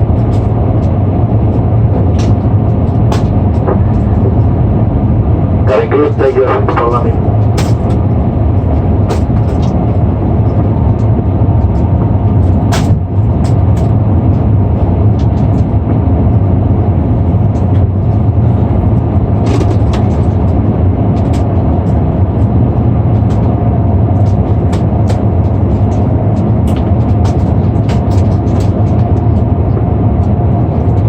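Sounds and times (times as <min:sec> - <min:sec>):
aircraft engine drone: 0:00.0 - 0:31.0.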